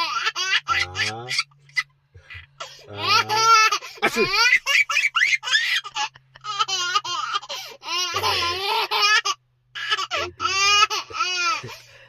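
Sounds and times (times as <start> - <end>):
baby laughing: 0.0 - 11.9.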